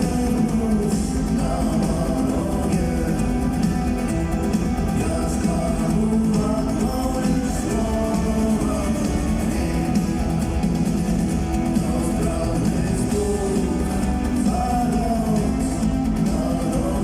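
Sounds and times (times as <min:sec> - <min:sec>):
person singing: 0:00.0 - 0:10.6, 0:11.5 - 0:17.0
rock band playing live: 0:00.0 - 0:17.0.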